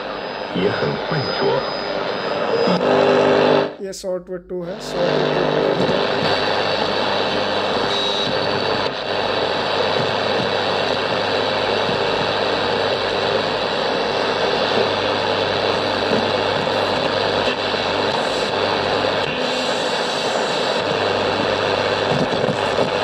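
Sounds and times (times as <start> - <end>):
shortwave radio static: 0.0 - 23.0.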